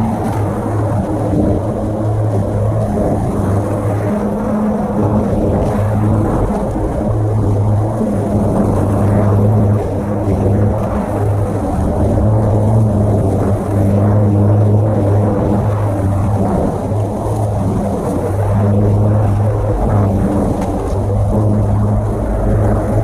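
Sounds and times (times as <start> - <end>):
lawnmower motor and blade hum: 0.0 - 23.0.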